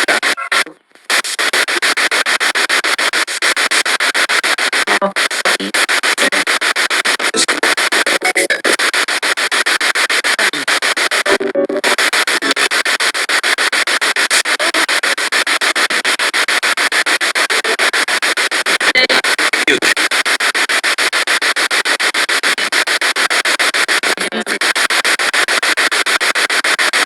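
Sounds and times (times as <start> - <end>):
pulsing radio static: 0.0 - 27.0
snatches of radio sound: 0.0 - 27.0.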